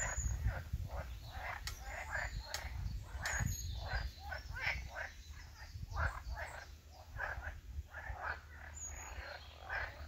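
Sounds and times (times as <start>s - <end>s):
frogs croaking: 0.0s - 10.0s.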